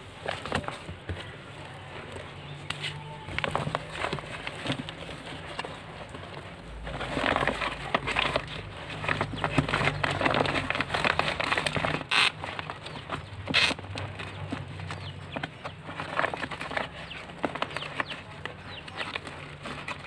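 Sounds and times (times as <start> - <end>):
plastic sack rustling: 0.0 - 20.0.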